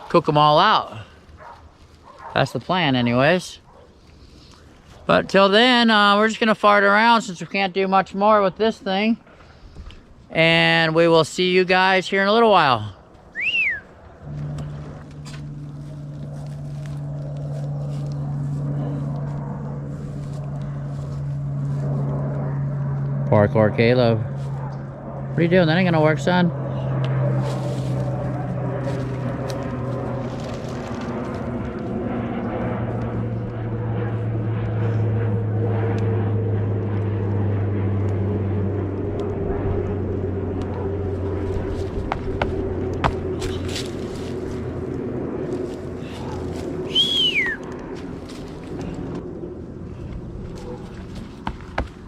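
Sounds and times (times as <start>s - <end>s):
low engine drone: 0.0s - 52.0s
low hum: 0.0s - 52.0s.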